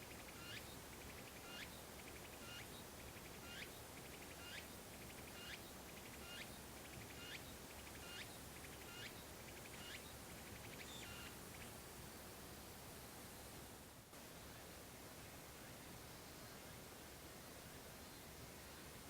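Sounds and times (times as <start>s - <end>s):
low steady hiss: 0.0s - 19.0s.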